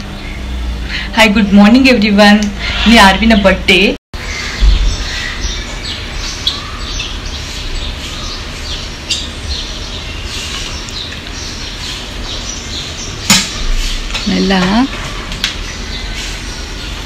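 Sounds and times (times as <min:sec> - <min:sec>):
steady low rumble: 0:00.0 - 0:14.2
small birds chirping: 0:00.0 - 0:17.0.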